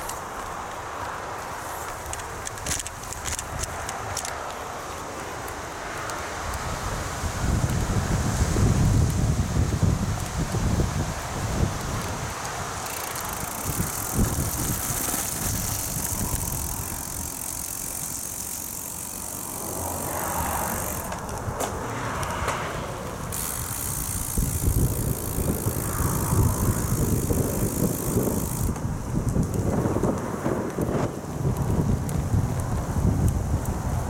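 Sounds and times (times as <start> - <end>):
bicycle rolling on asphalt: 0.0 - 34.0
wind buffeting microphone: 0.0 - 34.0.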